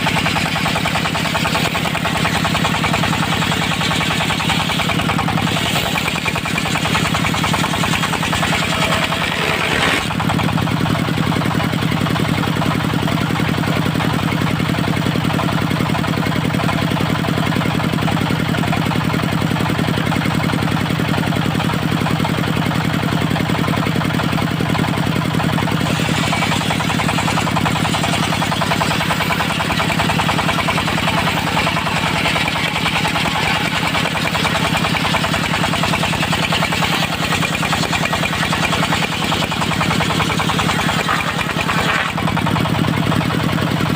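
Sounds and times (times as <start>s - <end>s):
sawmill engine running: 0.0s - 43.9s.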